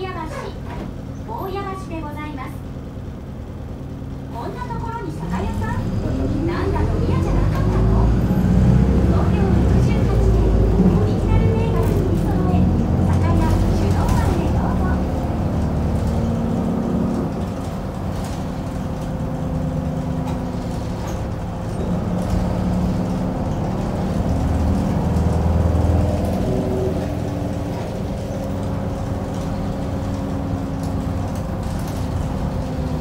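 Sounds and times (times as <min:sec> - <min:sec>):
bus diesel engine changing gear: 0:00.0 - 0:33.0.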